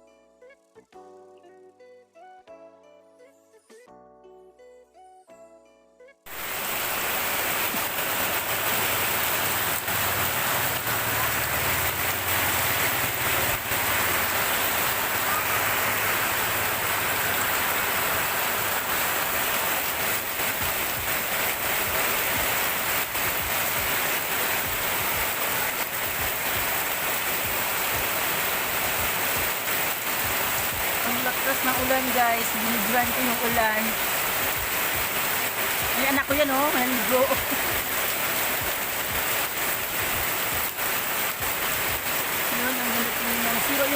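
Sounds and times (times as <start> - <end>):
heavy rain pouring: 6.3 - 43.9.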